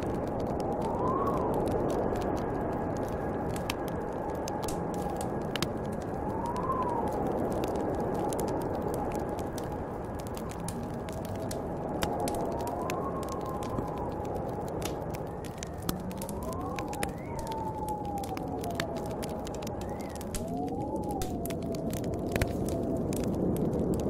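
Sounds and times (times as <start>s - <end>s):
crackling wood fire: 0.0s - 24.0s
howling snowstorm wind: 0.0s - 24.0s.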